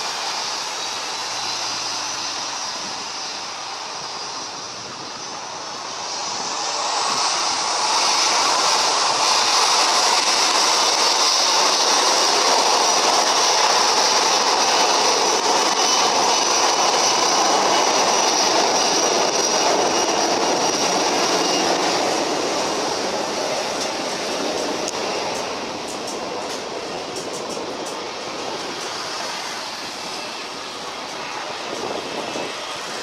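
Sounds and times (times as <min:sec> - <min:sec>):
jet engines rushing and whining: 0:00.0 - 0:33.0.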